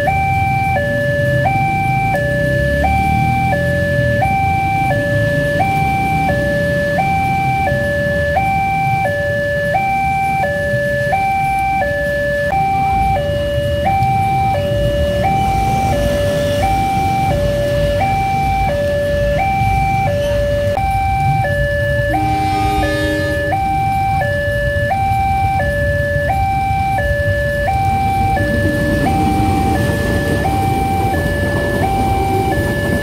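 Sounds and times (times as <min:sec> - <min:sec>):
level crossing two-tone alarm: 0:00.0 - 0:33.0.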